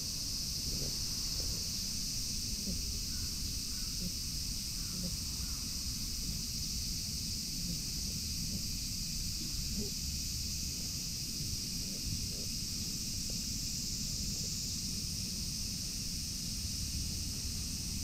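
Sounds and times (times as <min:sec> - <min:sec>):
cicadas chorus: 0:00.0 - 0:18.0.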